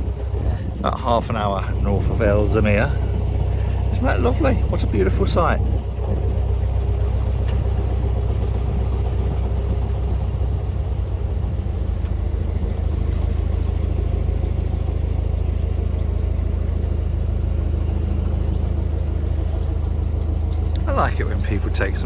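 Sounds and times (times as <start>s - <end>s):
boat diesel engine droning: 0.0s - 22.0s.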